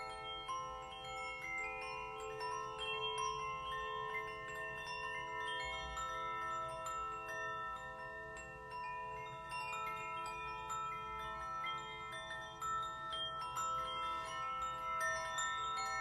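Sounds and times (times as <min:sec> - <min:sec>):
bells and chimes ringing: 0:00.0 - 0:16.0.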